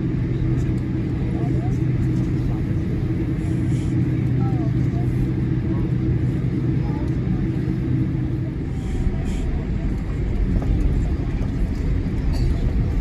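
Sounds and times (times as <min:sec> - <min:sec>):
airplane cabin rumble while taxiing: 0:00.0 - 0:13.0.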